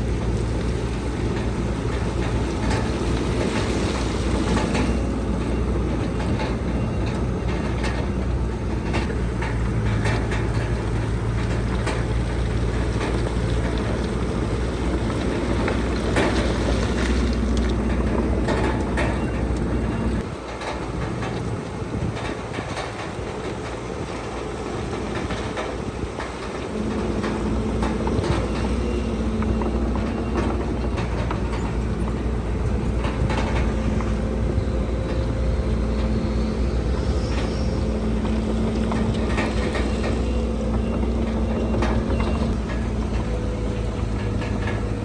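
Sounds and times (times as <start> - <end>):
heavy diesel engine drone: 0.0 - 45.0
machinery clanking and knocks: 0.0 - 45.0.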